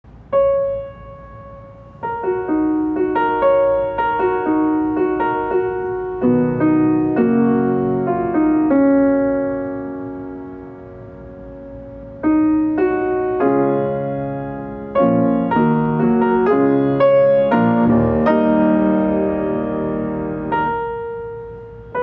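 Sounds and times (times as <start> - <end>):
slow gentle piano piece: 0.1 - 22.0.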